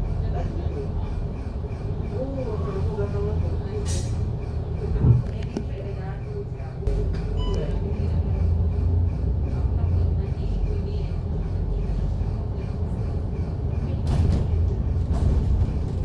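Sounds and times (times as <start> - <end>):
bus diesel engine rumbling: 0.0 - 16.0.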